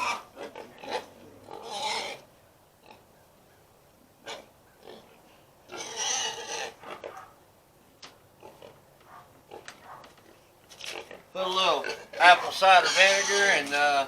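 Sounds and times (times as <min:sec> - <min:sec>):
pigs calling: 0:00.0 - 0:03.1, 0:04.2 - 0:07.4, 0:08.4 - 0:14.0.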